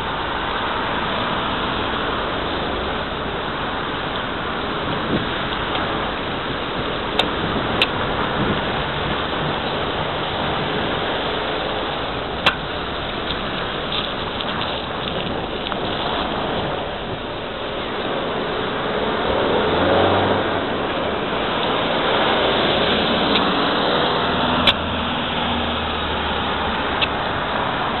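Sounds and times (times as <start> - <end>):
road noise: 0.0 - 28.0
wind noise on microphone: 0.0 - 28.0.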